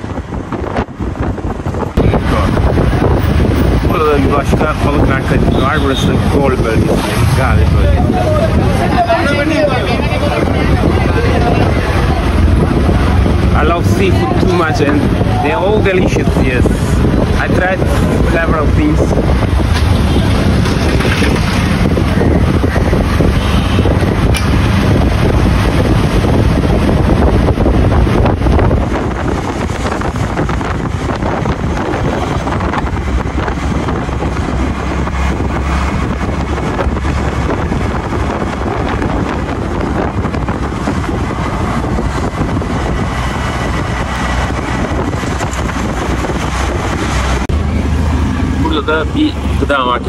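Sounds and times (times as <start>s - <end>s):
wind noise on microphone: 0.0s - 50.0s
outdoor background noise: 5.8s - 50.0s.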